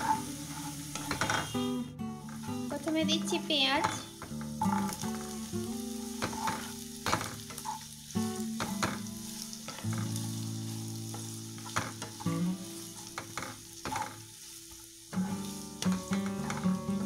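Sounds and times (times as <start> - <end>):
wooden spatula scraping a pan: 0.0 - 7.9, 8.6 - 17.0
onions sizzling in hot oil: 0.0 - 17.0.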